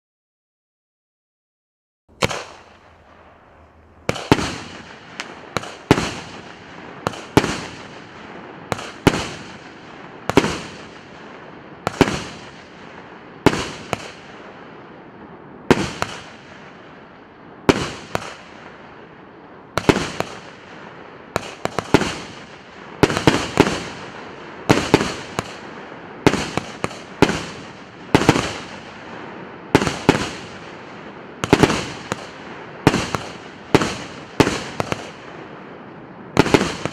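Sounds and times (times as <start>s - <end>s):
fireworks bangs: 2.1s - 36.9s.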